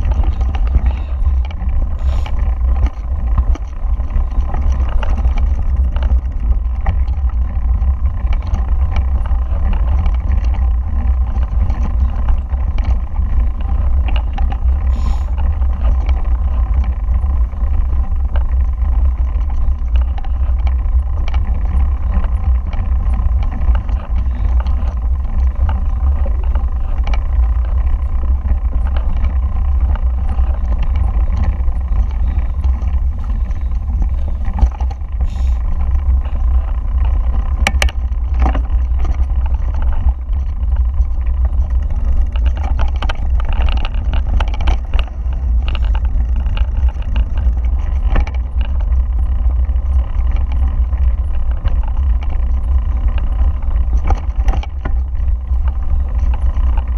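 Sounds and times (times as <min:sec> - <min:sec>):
bike frame rattling: 0:00.0 - 0:56.9
wind rumble on microphone: 0:00.0 - 0:56.9.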